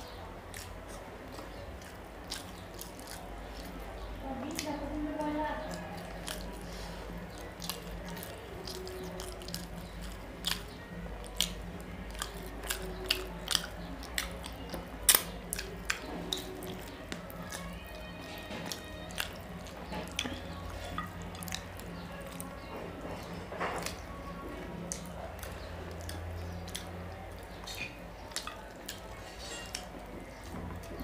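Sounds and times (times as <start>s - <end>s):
wet chewing and lip-smacking: 0.0s - 31.0s.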